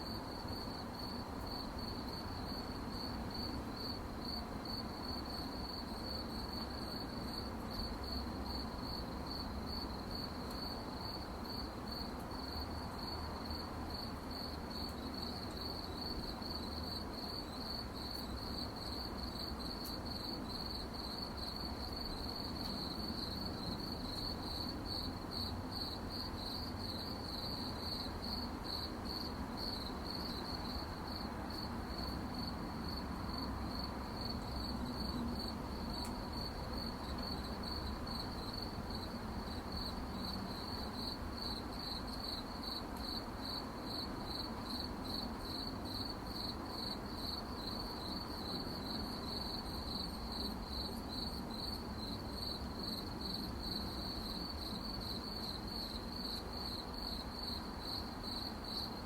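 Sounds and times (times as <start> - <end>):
crickets chirping: 0.0 - 59.0
low background hiss: 0.0 - 59.0.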